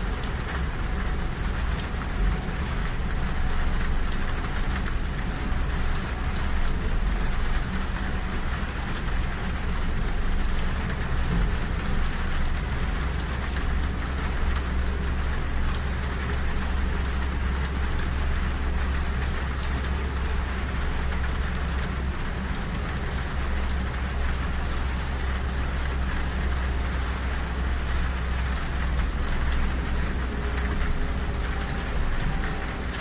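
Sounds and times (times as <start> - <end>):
moving train rumble: 0.0 - 33.0
rain pattering on window: 0.0 - 33.0.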